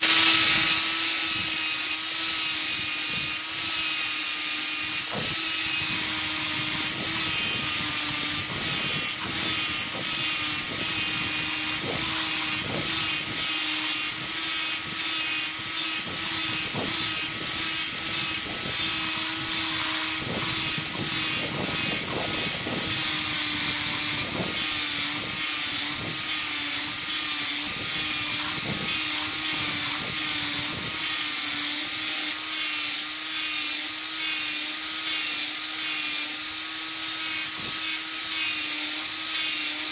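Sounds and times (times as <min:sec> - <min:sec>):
angle grinder motor whine: 0:00.0 - 0:39.9
disc rasping on metal: 0:00.0 - 0:39.9.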